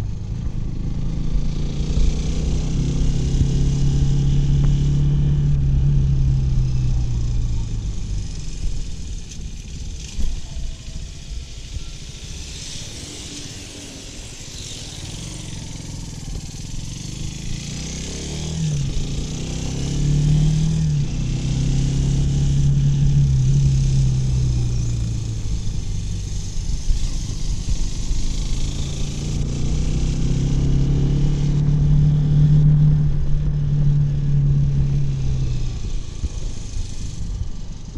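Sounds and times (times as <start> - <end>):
motorcycle engine: 0.0 - 37.9
wind and road noise: 0.0 - 37.9.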